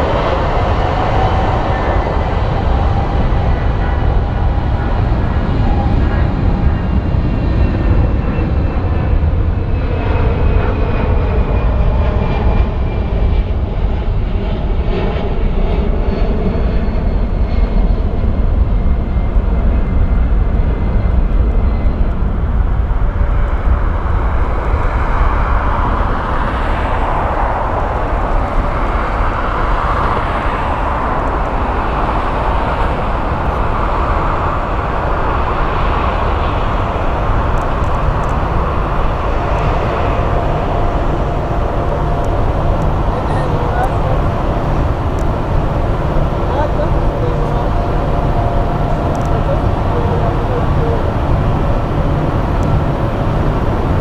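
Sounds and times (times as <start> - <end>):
jet engines roaring at takeoff: 0.0 - 54.0
jet engines whining: 0.0 - 54.0.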